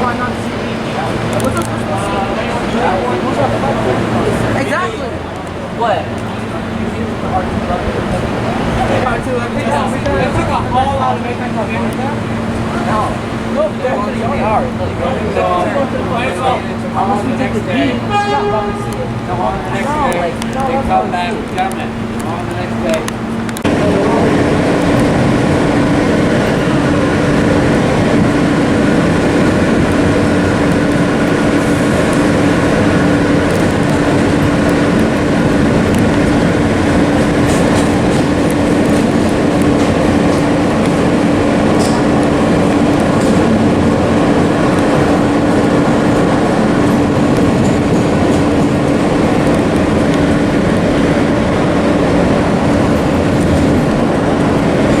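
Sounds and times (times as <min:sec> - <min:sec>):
subway train rumble: 0:00.0 - 0:55.0.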